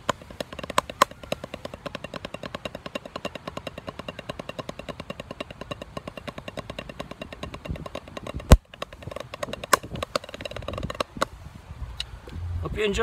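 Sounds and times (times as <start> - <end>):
accented snare hits: 0.0 - 11.3
snare drum played with sticks: 0.0 - 11.3.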